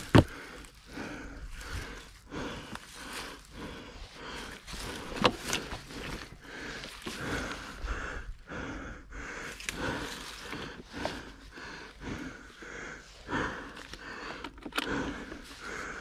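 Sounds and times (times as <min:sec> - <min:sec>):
person panting: 0:00.0 - 0:16.0.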